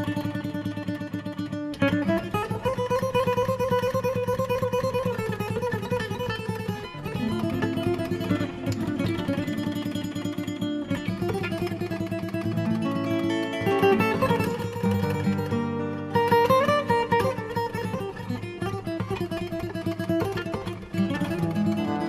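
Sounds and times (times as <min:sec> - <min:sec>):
strummed plucked strings: 0:00.0 - 0:22.0.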